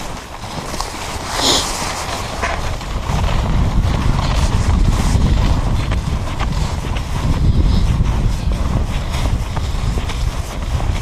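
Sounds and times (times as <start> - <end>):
boots crunching on snow: 0.0 - 11.0
wind on microphone: 0.0 - 11.0.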